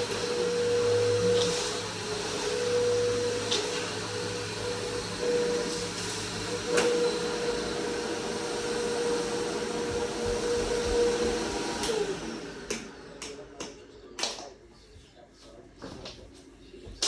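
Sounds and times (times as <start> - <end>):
vacuum cleaner running: 0.0 - 13.9.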